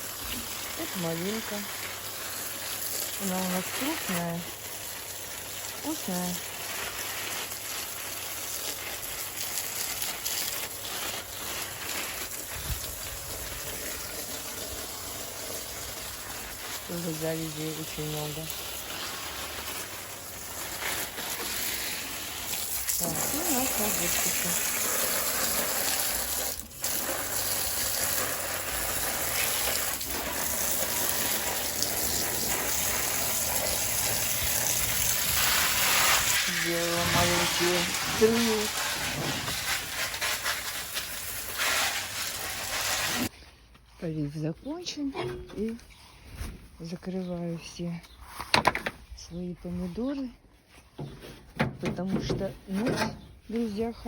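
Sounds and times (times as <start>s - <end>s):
hose water spraying on plants: 0.0s - 48.4s, 52.0s - 54.0s.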